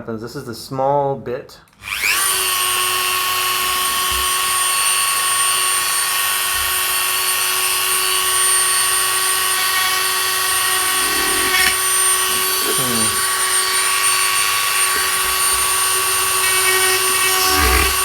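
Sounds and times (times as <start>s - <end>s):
rotary tool grinding plastic: 1.8s - 18.0s.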